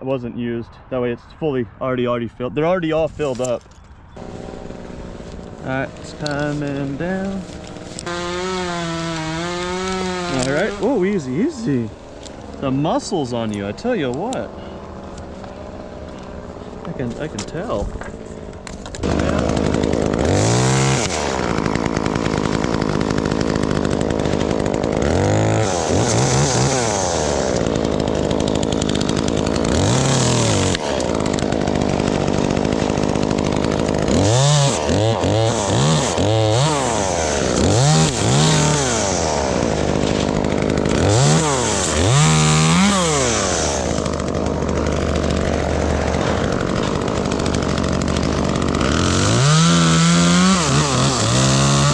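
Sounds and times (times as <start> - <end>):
chainsaw revving: 4.2 - 51.9.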